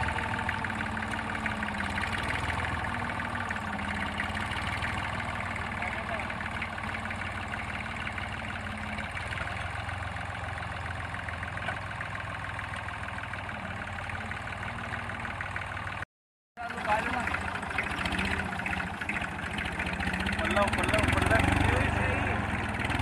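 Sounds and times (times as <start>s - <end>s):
small diesel tractor engine: 0.0s - 23.0s.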